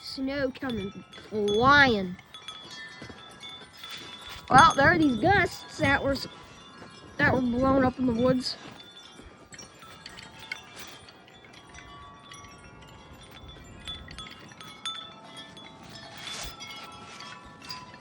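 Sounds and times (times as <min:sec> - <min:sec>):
wind chimes ringing: 0:00.0 - 0:18.0.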